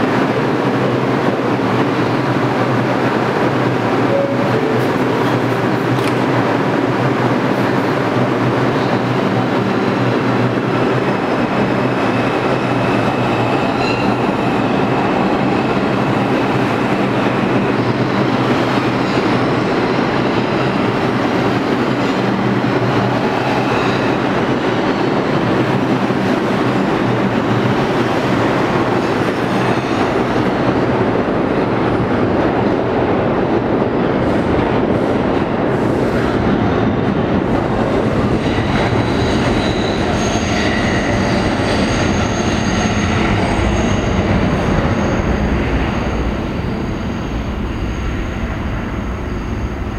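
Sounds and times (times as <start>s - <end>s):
subway train rumbling on rails: 0.0s - 49.9s.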